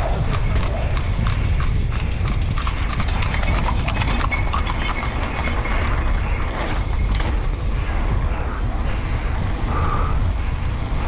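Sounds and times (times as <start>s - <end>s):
horse hooves on asphalt: 0.0s - 9.6s
wind on microphone: 0.0s - 11.0s.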